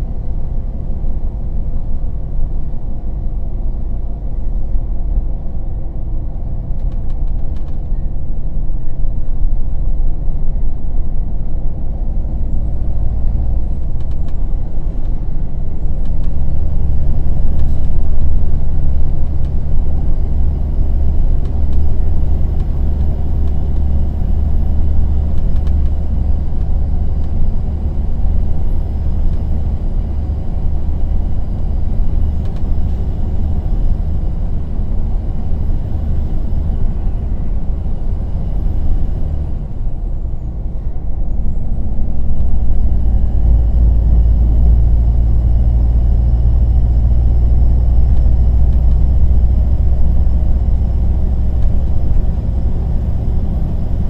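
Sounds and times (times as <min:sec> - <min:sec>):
coach engine drone: 0:00.0 - 0:54.0.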